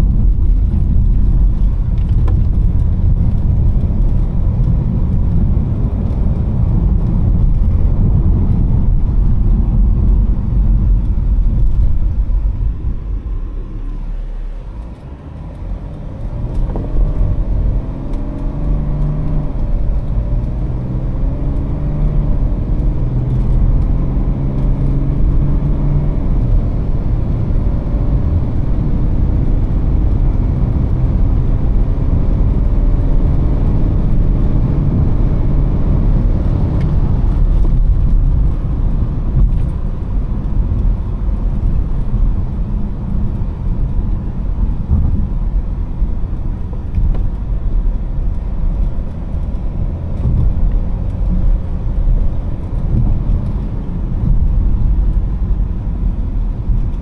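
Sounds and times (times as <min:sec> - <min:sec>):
diesel car engine shifting gears: 0:00.0 - 0:57.0
tyre and road noise: 0:00.0 - 0:57.0.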